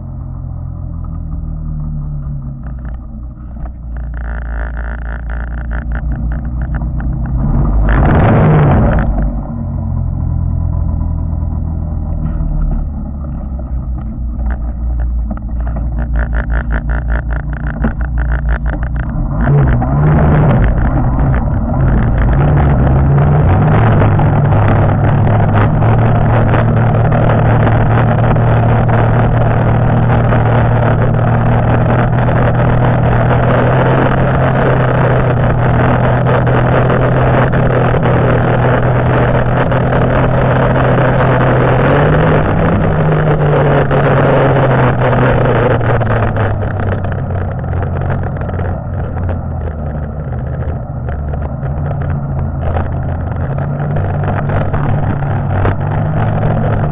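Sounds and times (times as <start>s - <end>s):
snowmobile engine running: 0.0s - 56.9s.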